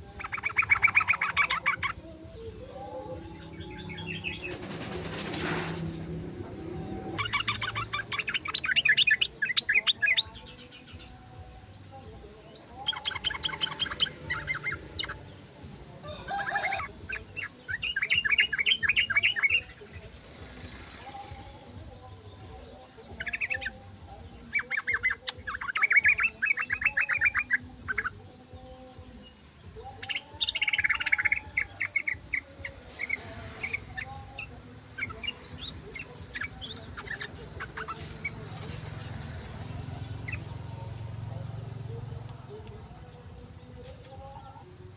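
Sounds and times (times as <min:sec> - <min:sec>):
bird chattering song: 0:00.0 - 0:44.8.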